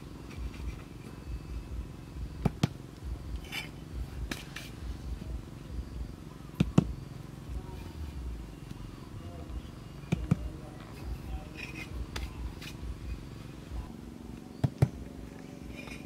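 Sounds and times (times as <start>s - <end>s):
low uneven rumble: 0.0s - 16.0s.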